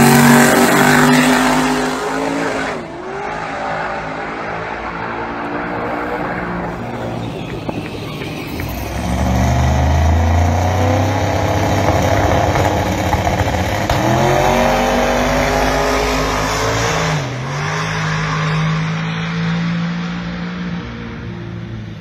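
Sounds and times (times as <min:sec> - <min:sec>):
drag car engine accelerating: 0:00.0 - 0:22.0.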